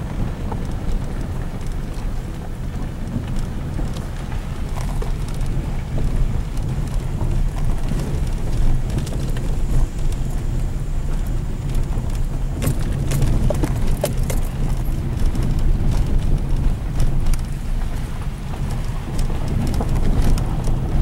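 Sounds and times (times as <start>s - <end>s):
car engine and tyres rumbling: 0.0s - 21.0s
gravel crunching: 0.0s - 21.0s.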